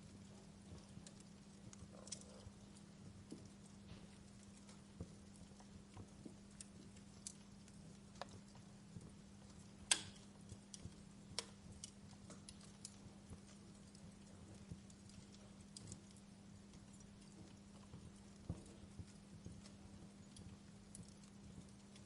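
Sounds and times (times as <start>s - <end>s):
steady low hum: 0.0s - 22.0s
wood fire crackling: 0.0s - 22.0s.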